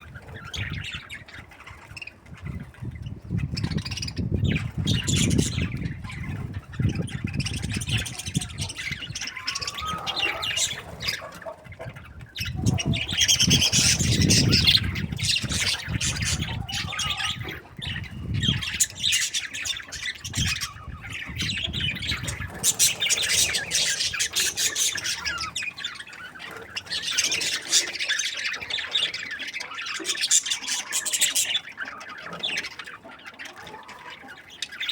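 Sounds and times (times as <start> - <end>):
budgerigars chattering and squawking: 0.0 - 34.9.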